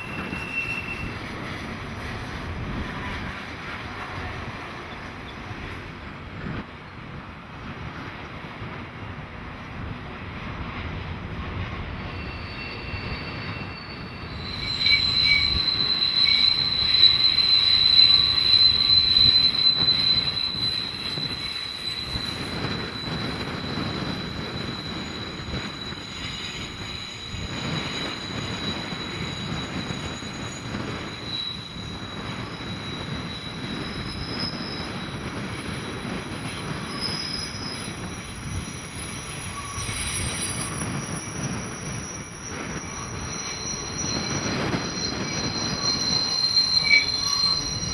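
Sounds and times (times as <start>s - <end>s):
high wheel squeal: 0.0s - 5.5s, 11.8s - 47.9s
train wheels rumbling: 0.0s - 47.9s.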